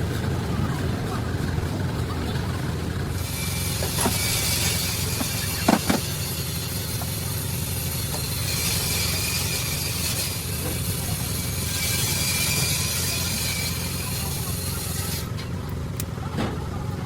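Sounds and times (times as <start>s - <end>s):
engine knocking: 0.0s - 15.1s
engine running: 0.0s - 17.0s.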